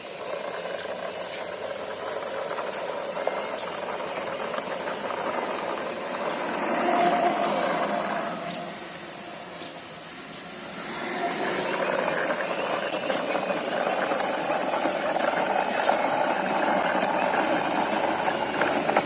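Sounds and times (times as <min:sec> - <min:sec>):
toy wheels rolling: 0:00.0 - 0:09.8, 0:10.6 - 0:19.0.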